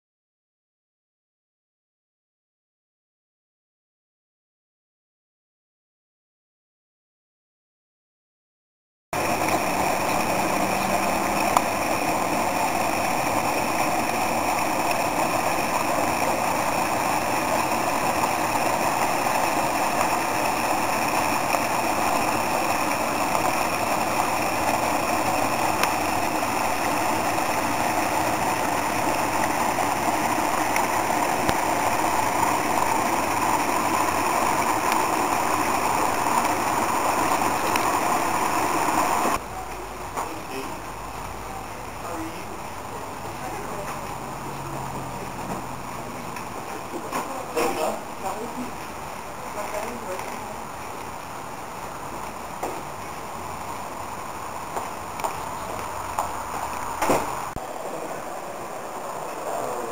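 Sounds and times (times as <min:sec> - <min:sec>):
water pouring over rocks: 0:09.2 - 0:46.6, 0:47.6 - 0:59.9.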